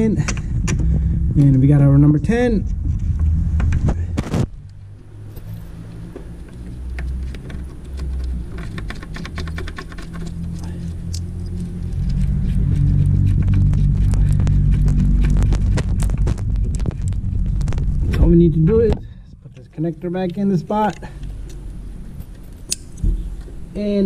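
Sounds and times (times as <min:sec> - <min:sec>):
low rumble of handling noise: 0:00.0 - 0:24.0.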